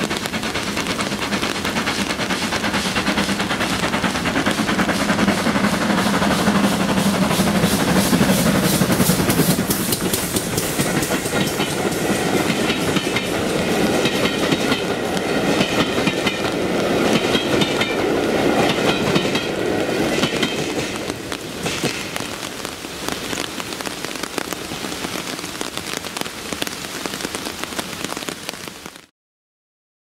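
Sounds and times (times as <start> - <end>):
train coaches rumbling on track: 0.0 - 28.3
steady rain falling: 0.0 - 29.1.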